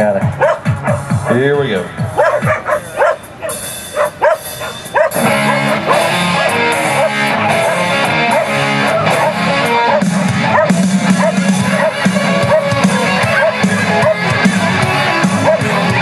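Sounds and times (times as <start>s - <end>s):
guitar music: 0.0s - 16.0s
dog barking: 0.4s - 1.4s, 2.2s - 14.5s, 15.2s - 16.0s.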